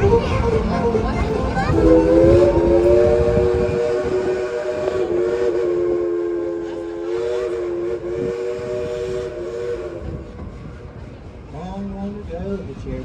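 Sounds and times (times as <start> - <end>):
steam locomotive chime whistle: 0.0 - 11.0.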